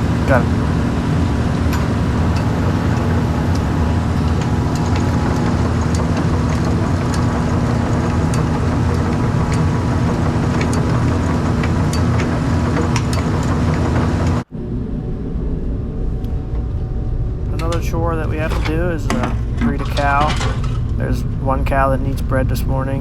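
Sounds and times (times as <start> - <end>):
conveyor machine humming: 0.0 - 23.0.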